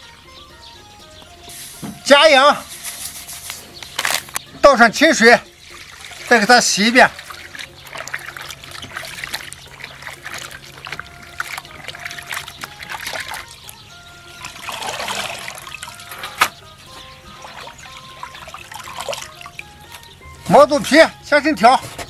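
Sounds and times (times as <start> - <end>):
water splashing and sloshing: 1.7 - 22.0.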